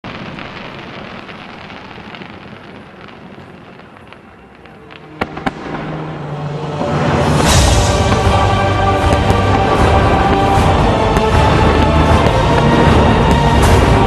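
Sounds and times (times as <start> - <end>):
fireworks crackling: 0.0 - 14.0
fireworks sharp bangs: 0.0 - 14.0.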